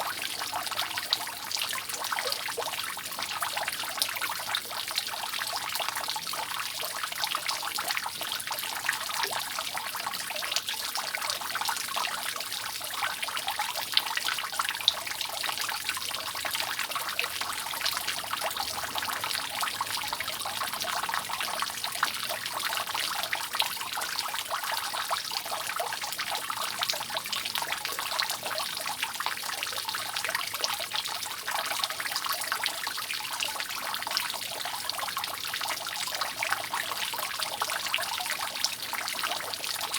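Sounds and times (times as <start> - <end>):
rainwater dripping: 0.0 - 39.9
water trickling: 0.0 - 39.9.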